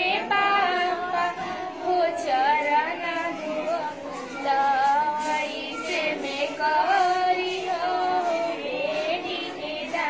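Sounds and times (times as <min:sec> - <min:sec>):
girl singing folk song: 0:00.0 - 0:10.0.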